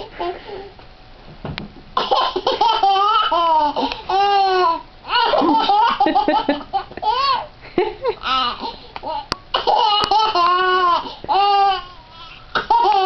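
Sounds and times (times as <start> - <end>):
toddler laughing: 2.0 - 13.0.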